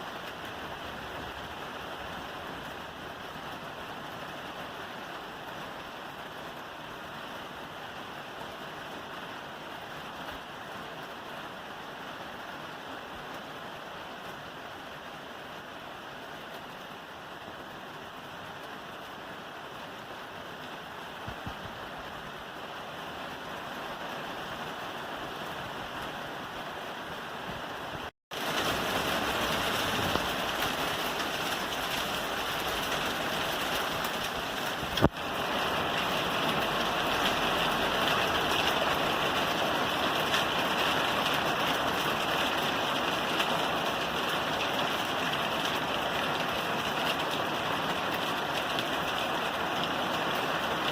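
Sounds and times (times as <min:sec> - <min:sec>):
rain on a roof: 0:00.0 - 0:50.9.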